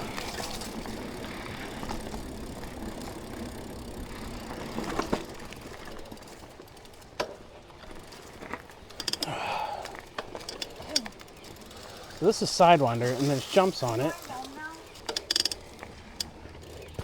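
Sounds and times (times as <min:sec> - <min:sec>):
bike tyres rolling on dirt: 0:00.0 - 0:17.0.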